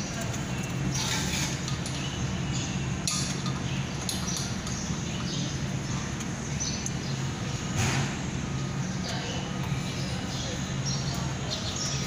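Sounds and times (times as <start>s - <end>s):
birds chirping: 0.0s - 12.0s
low mechanical hum: 0.0s - 12.0s.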